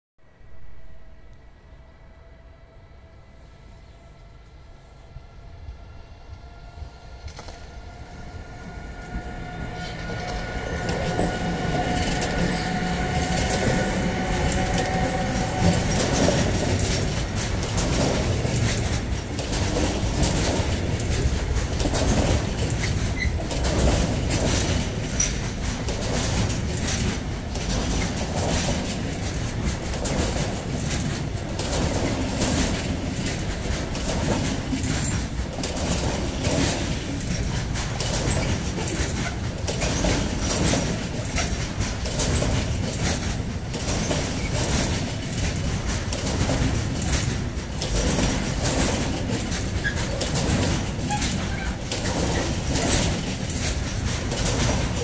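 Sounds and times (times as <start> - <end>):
electric locomotive whine: 0.2 - 55.0
wagon wheels clattering on rail joints: 8.6 - 55.0.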